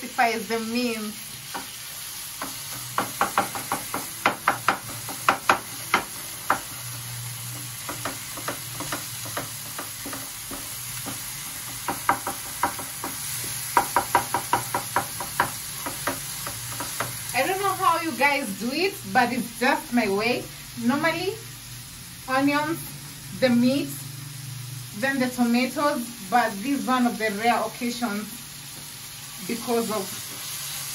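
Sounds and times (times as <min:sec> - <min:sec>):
vegetables sizzling: 0:00.0 - 0:30.9.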